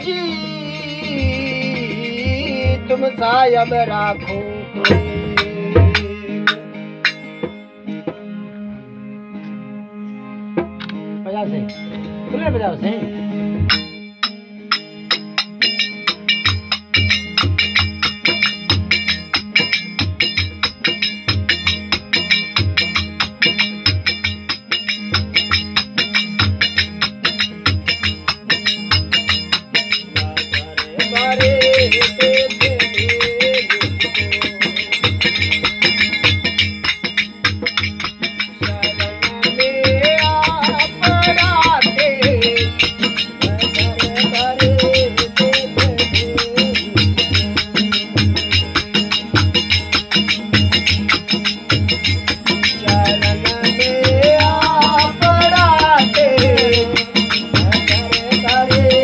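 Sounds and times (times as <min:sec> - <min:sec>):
rattling percussion beat: 0:00.0 - 0:08.2, 0:11.7 - 0:59.0
harmonium melody: 0:00.0 - 0:59.0
tandura drone: 0:00.0 - 0:59.0.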